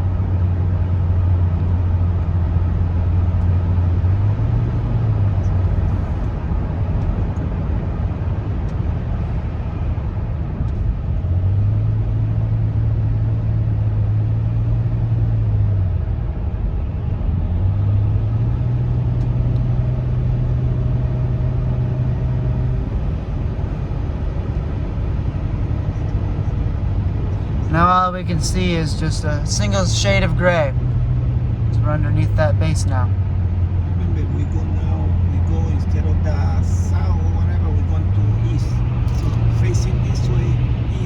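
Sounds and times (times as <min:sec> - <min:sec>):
low engine hum: 0:00.0 - 0:41.0.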